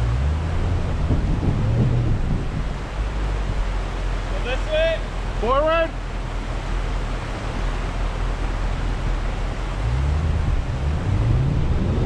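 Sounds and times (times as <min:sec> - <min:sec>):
vehicle engine running: 0:00.0 - 0:05.4, 0:06.0 - 0:12.0
wind rushing on microphone: 0:00.0 - 0:05.4, 0:06.1 - 0:12.0.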